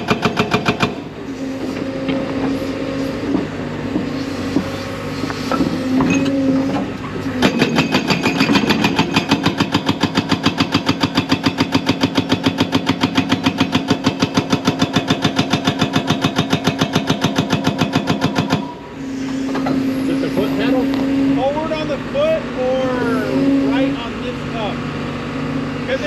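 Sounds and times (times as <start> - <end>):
hydraulic breaker hammering rock: 0.0 - 24.0
excavator engine running: 0.0 - 26.0.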